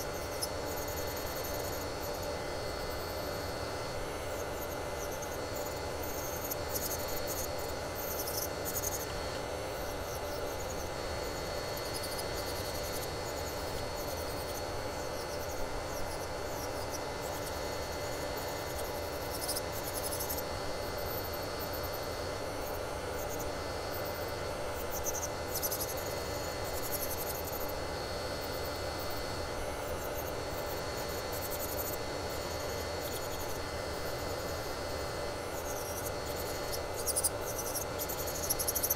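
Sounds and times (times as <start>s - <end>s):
electric nail drill whine: 0.0s - 38.9s.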